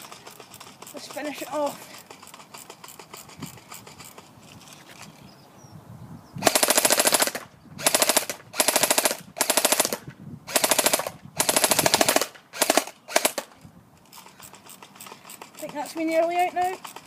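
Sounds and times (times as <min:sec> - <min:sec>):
airsoft gun firing bursts: 0:00.0 - 0:04.3, 0:06.4 - 0:13.6, 0:14.2 - 0:17.0.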